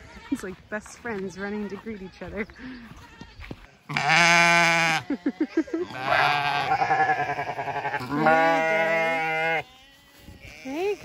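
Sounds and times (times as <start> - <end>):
sheep bleating: 2.0 - 11.0.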